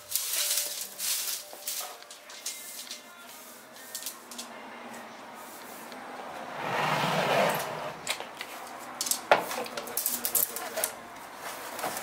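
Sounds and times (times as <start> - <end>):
dry stems rustling: 0.0 - 6.5, 7.6 - 12.0.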